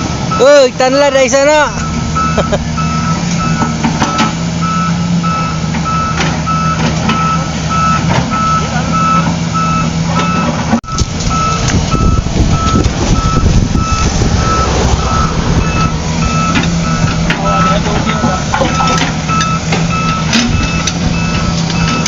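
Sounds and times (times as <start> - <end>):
vehicle engine running: 0.0 - 22.0
reversing alarm beeping: 0.3 - 22.0.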